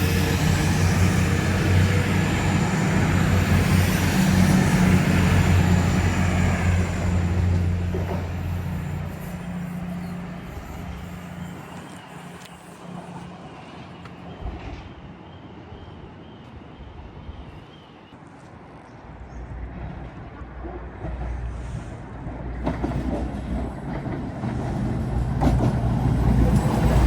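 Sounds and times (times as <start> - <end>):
diesel train engine rumbling: 0.0 - 17.7, 19.0 - 27.0.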